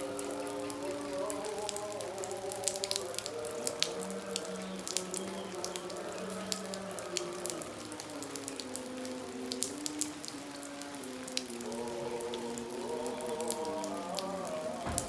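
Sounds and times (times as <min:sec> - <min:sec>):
heavy rain falling: 0:00.0 - 0:15.0
soft music of held notes: 0:00.0 - 0:15.0.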